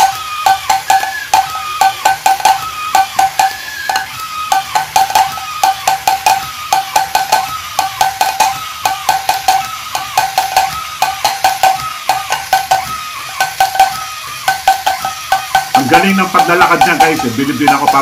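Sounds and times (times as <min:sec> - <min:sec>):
toy drum taps: 0:00.0 - 0:18.0.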